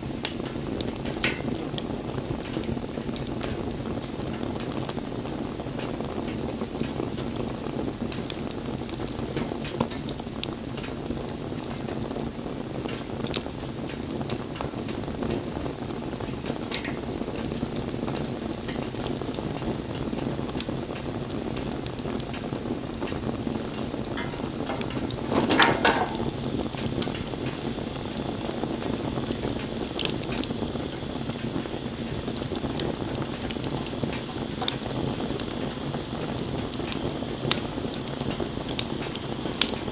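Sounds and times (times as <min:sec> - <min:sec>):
wood fire hissing and crackling: 0:00.0 - 0:39.9.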